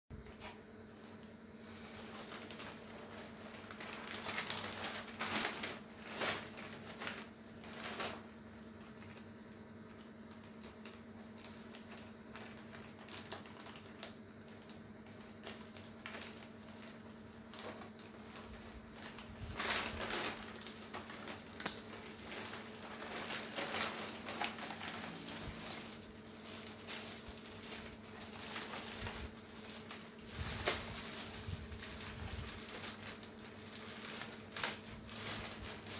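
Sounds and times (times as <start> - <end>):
plastic bag crinkling: 0.9 - 35.9.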